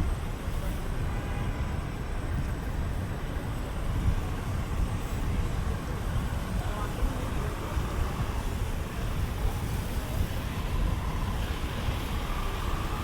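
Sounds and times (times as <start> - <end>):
traffic hiss: 0.1 - 13.0.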